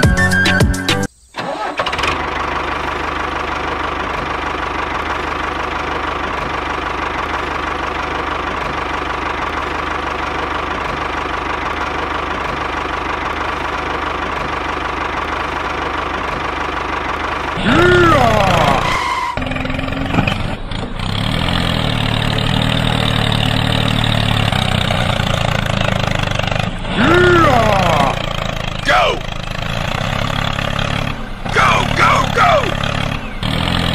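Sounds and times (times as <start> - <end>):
tractor engine idling: 1.1 - 33.9.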